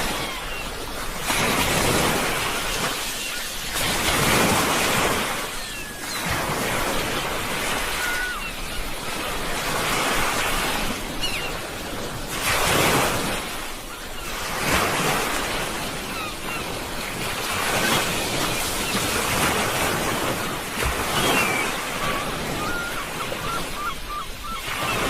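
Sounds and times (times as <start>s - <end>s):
sea waves washing ashore: 0.0s - 25.0s.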